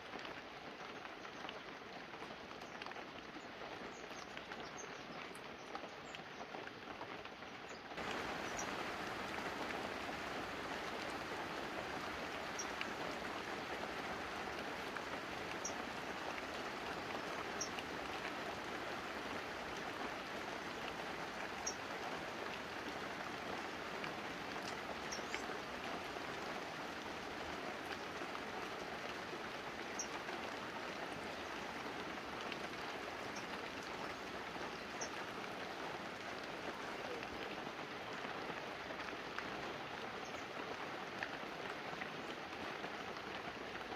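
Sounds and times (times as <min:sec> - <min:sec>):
rain on leaves and roof: 0:00.0 - 0:43.9
sharp rain drops: 0:00.0 - 0:43.9.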